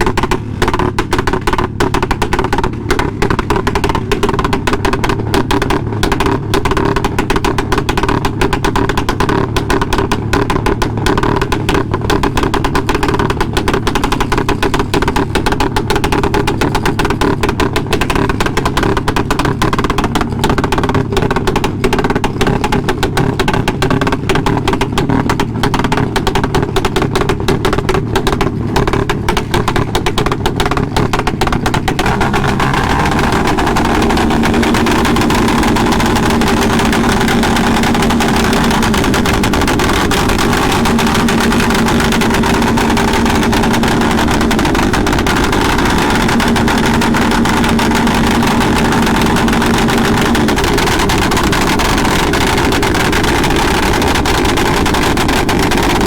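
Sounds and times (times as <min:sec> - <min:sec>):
low engine hum: 0:00.0 - 0:56.0
motorcycle engine crackling: 0:00.0 - 0:56.0
steady rush of noise: 0:00.0 - 0:56.0.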